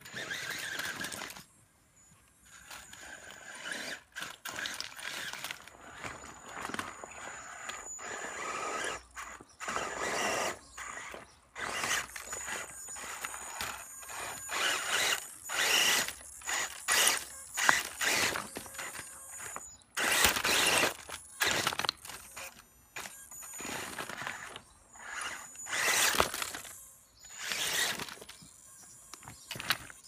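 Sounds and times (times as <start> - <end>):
tyres scraping on rock: 0.0 - 1.5, 2.4 - 30.0
electric motor and gear whine: 0.0 - 30.0.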